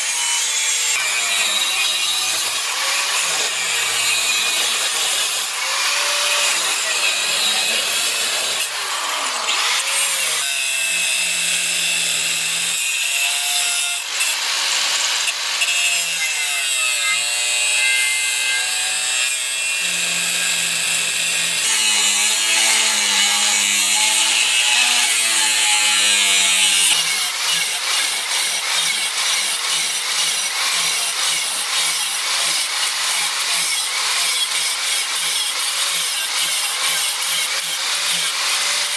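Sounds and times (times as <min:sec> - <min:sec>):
grinding and sanding steel blade: 0:00.0 - 0:38.9.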